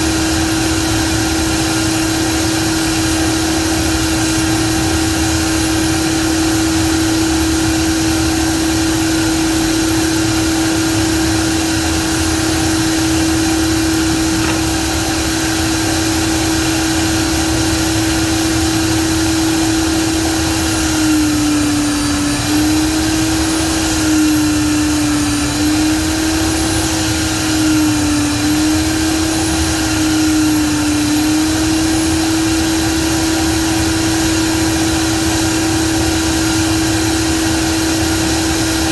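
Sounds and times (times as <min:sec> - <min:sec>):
power tool motor running: 0:00.0 - 0:38.9.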